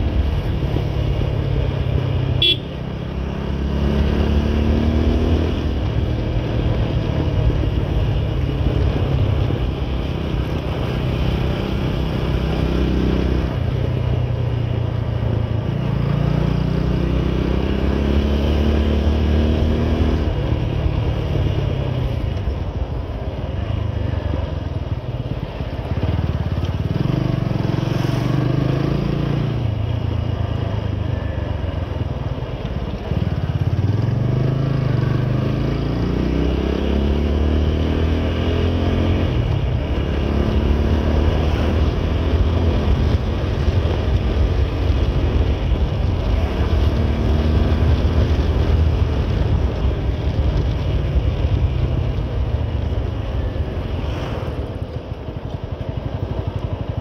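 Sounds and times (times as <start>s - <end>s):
motorcycle engine revving: 0.0s - 22.5s, 23.5s - 57.0s.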